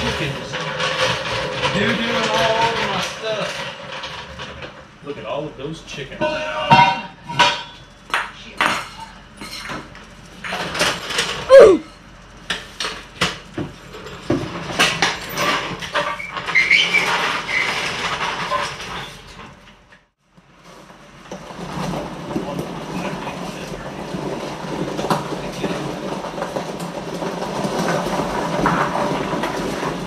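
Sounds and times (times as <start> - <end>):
floor jack clanking and rattling: 0.0 - 30.0.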